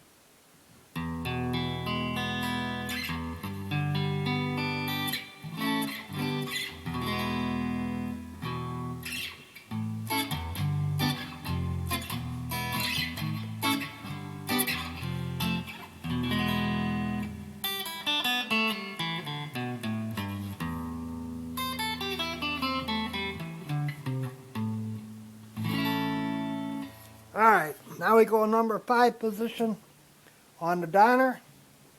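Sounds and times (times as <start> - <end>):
electric guitar playing: 0.9 - 27.8.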